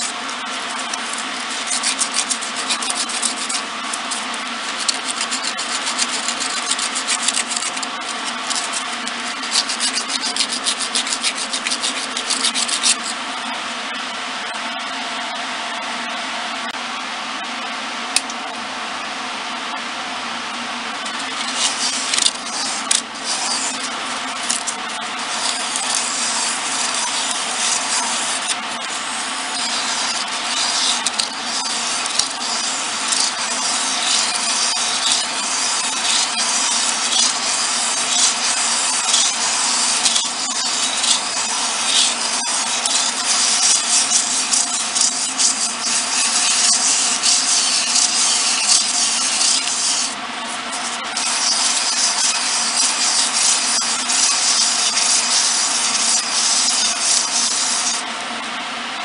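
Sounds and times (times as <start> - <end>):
sandpaper rasping on spinning wood: 0.0 - 13.6, 21.1 - 58.1
lathe motor hum: 0.0 - 16.9, 20.2 - 59.0.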